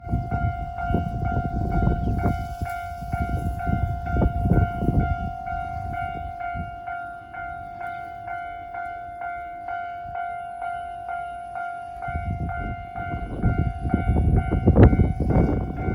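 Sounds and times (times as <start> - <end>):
level crossing warning bell: 0.0 - 15.9
train rumbling: 0.0 - 15.9.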